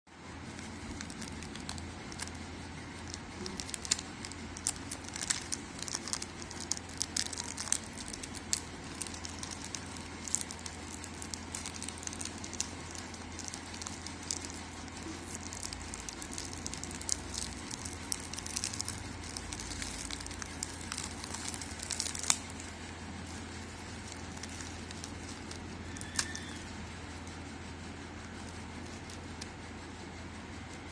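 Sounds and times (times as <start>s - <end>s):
steady low hum: 0.1s - 30.9s
plastic packaging crinkling: 0.4s - 27.4s, 28.2s - 29.6s.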